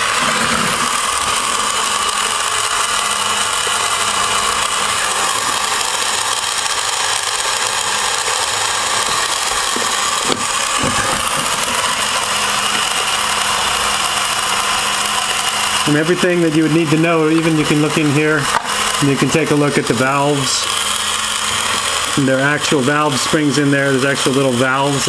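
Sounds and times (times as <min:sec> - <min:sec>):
model engine mechanical whir: 0:00.0 - 0:25.0.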